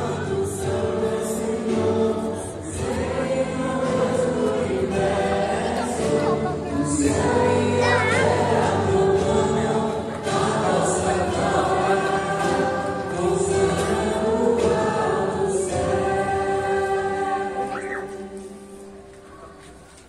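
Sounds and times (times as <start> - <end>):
congregation singing a hymn: 0.0 - 19.6.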